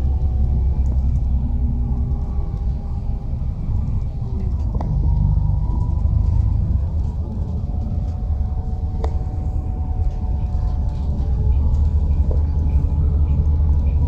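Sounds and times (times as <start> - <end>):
faint whine: 0.0 - 14.0
vehicle engine rumble from inside: 0.0 - 14.0.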